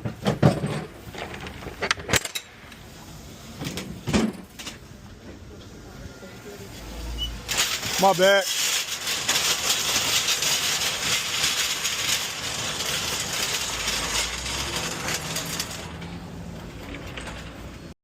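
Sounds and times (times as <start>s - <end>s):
road and engine hiss: 0.0s - 18.0s.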